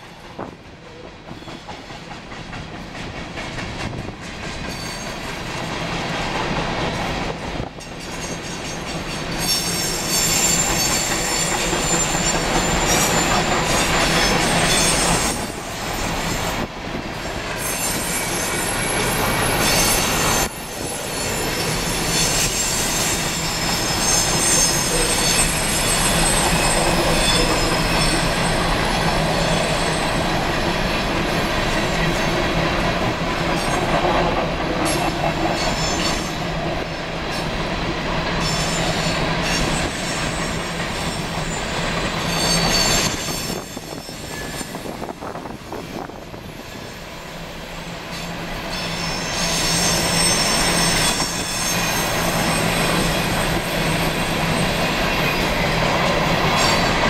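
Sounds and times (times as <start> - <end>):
rumble of freight cars: 0.0 - 57.0
steel wheels squealing on rails: 0.0 - 57.0.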